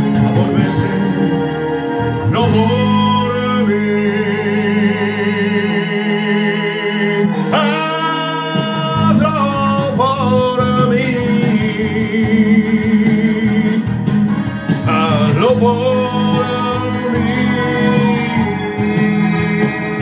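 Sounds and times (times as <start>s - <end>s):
backing music: 0.0s - 20.0s
man singing with vibrato: 0.0s - 20.0s.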